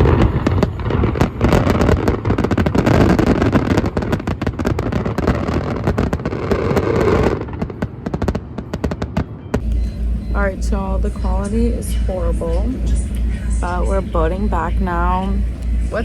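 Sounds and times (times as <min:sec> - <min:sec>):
fireworks crackling and banging: 0:00.0 - 0:16.0
low rumble: 0:00.0 - 0:16.0.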